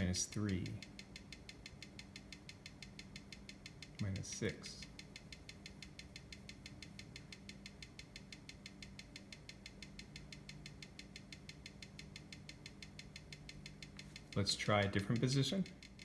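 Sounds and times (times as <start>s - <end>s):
watch ticking: 0.0s - 16.0s.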